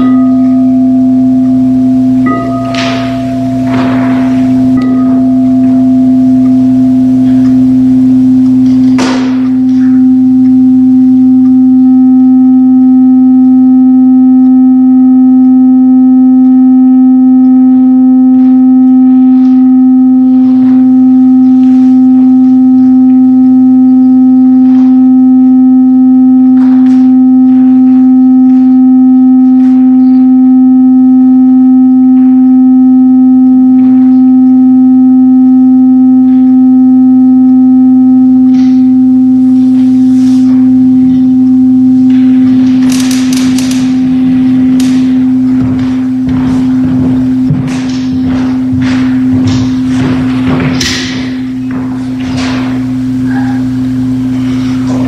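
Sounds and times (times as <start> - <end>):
singing bowl sustained tone: 0.0 - 55.0.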